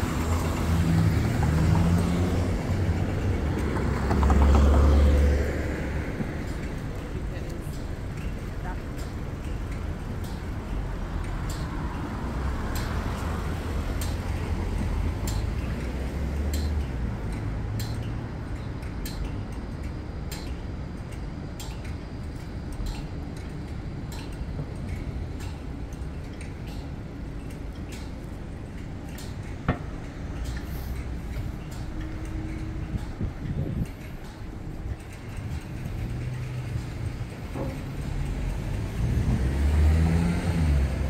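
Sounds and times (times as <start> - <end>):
low rumble of passing traffic: 0.0 - 41.0
pedestrian crossing signal ticking: 0.0 - 41.0.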